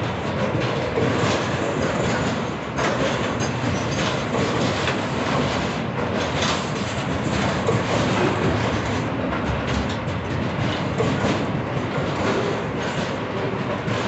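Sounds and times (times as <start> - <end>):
freight train wheels rumbling: 0.0 - 14.0
train wheels clacking: 0.0 - 14.0.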